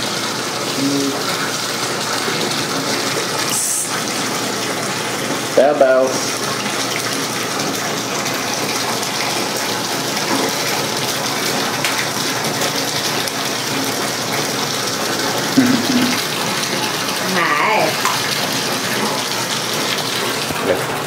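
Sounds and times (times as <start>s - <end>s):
water pouring into bathtub: 0.0s - 21.0s.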